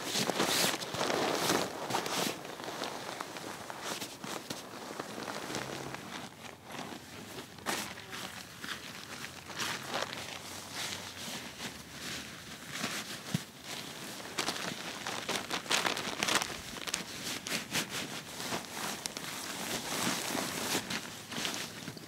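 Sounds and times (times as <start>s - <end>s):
fabric being handled: 0.0s - 22.0s
plastic tarp crinkling and rustling: 0.0s - 22.0s.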